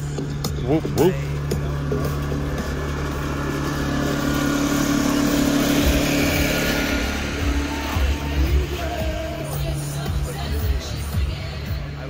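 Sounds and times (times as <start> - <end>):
engine humming: 0.0 - 12.0
low engine rumbles: 0.0 - 12.0.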